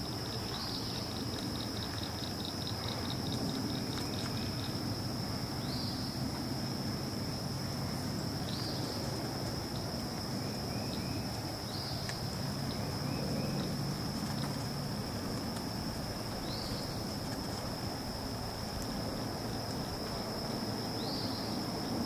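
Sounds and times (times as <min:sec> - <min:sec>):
pulsing insect trill: 0:00.0 - 0:22.0.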